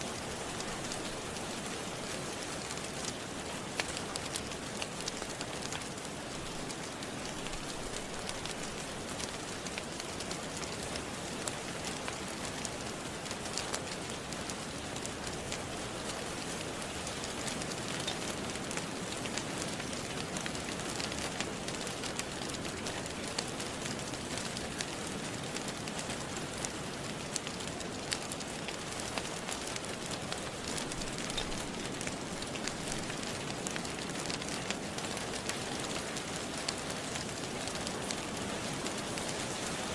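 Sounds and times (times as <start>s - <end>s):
steady rain falling: 0.0s - 39.9s
fireplace wood fire crackling: 0.1s - 39.9s.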